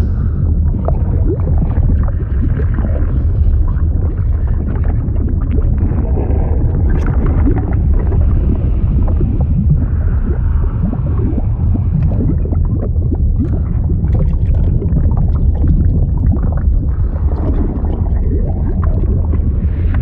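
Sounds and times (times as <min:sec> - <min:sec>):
deep underwater rumble: 0:00.0 - 0:20.0
water bubbling and gurgling: 0:00.0 - 0:20.0.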